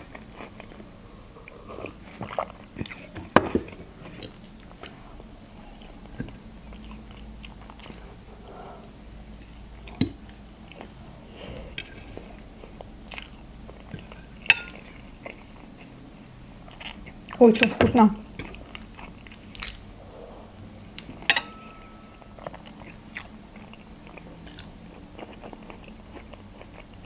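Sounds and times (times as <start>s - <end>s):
person chewing and swallowing: 0.0s - 16.0s, 18.3s - 27.0s.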